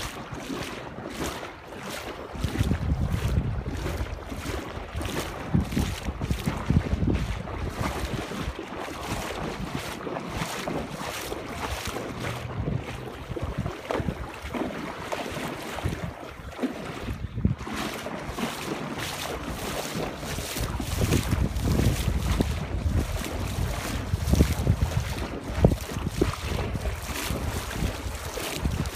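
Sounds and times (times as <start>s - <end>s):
wading through water: 0.0s - 28.9s
wind buffeting microphone: 2.0s - 28.9s.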